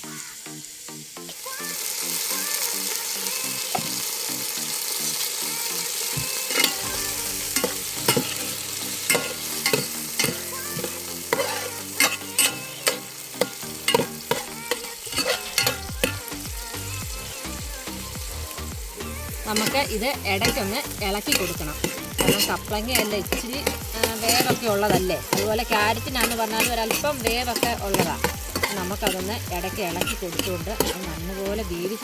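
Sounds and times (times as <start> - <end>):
vegetables sizzling in oil: 0.0 - 32.0.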